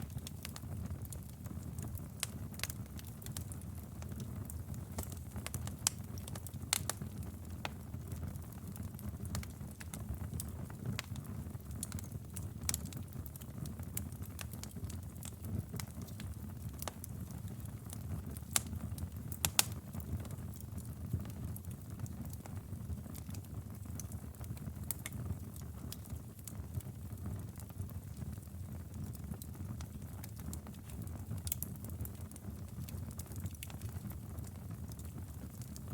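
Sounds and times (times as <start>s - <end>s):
sharp pops from fire: 0.0s - 7.8s, 8.8s - 21.4s, 23.1s - 25.2s, 29.1s - 35.9s
wood fire crackling: 0.0s - 35.9s.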